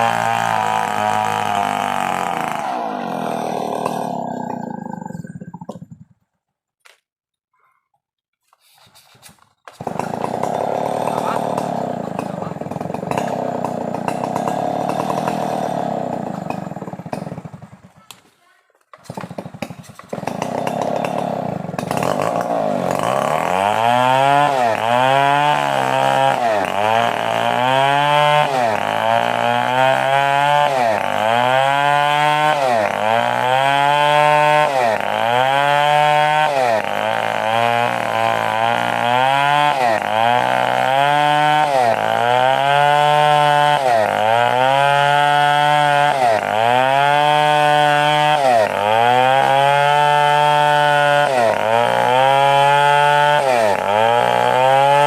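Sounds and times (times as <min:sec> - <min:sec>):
chainsaw cutting wood: 0:00.0 - 0:07.0, 0:08.8 - 0:55.0.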